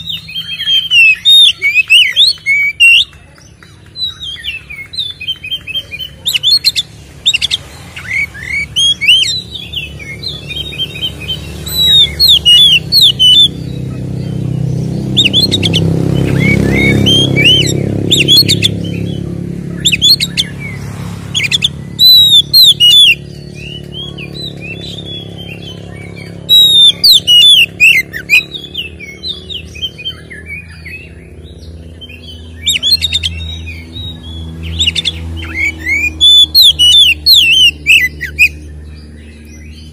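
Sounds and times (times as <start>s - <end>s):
bird singing rapid whistles: 0.0s - 39.9s.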